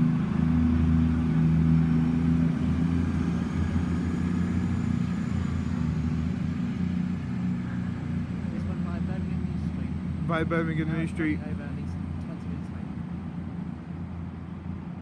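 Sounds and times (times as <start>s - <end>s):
train diesel engines droning: 0.0s - 15.0s.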